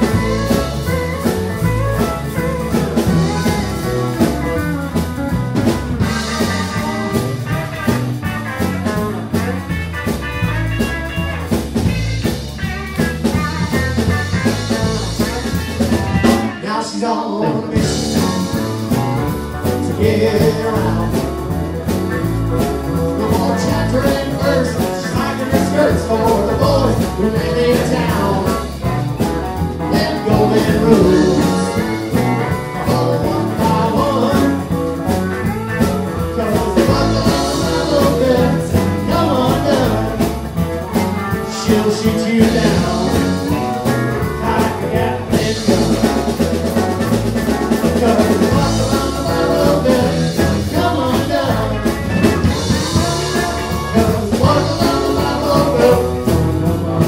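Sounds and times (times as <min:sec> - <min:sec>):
live country band playing: 0:00.0 - 0:57.0.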